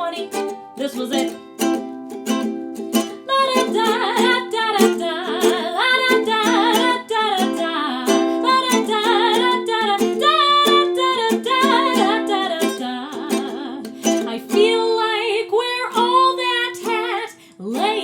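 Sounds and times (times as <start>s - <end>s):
ukulele strumming: 0.0s - 18.0s.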